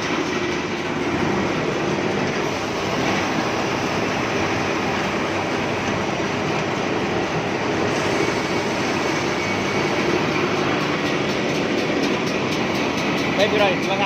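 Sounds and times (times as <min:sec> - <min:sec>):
wood moulding machine running: 0:00.0 - 0:14.0.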